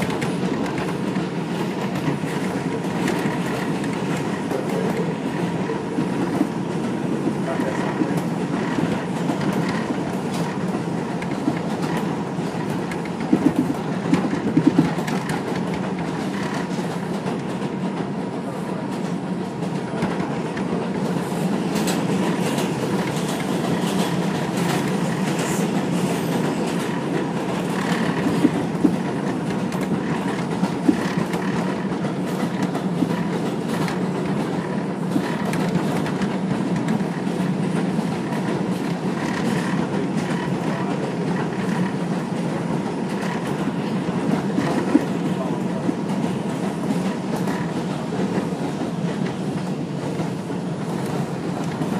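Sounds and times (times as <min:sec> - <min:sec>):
train wheels rumbling on rail: 0:00.0 - 0:51.9
wheels clacking over rail joints: 0:00.0 - 0:51.9.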